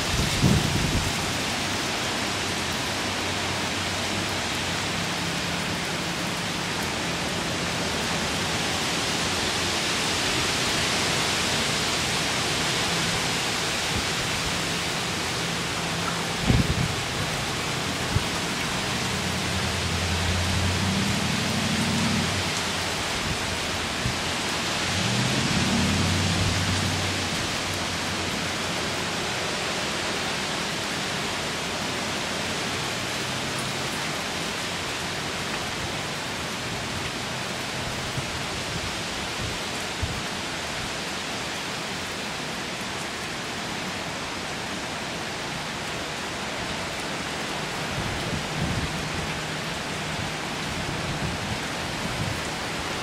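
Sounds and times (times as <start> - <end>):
steady heavy rain: 0.0 - 53.0.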